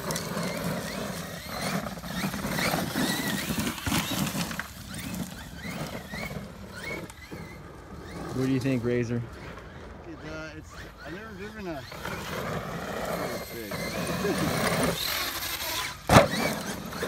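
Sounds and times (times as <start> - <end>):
electric motor whining: 0.0 - 17.0
tires crunching on gravel: 0.0 - 17.0.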